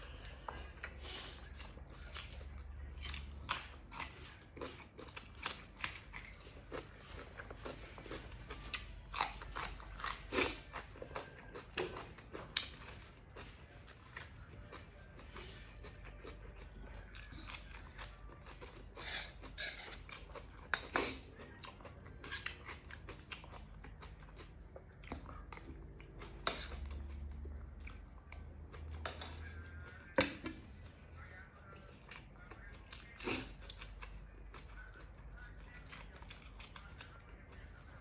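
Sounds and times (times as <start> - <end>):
person chewing crunchy food: 0.0 - 38.0.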